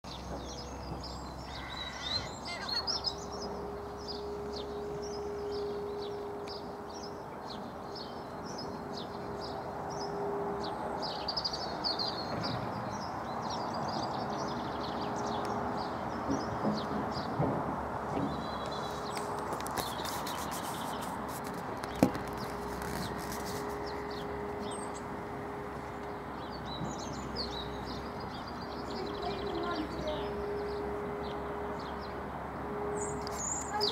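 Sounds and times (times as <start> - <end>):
outdoor background noise: 0.0 - 33.9
small birds chirping: 0.1 - 17.4, 18.2 - 25.2, 25.9 - 32.2.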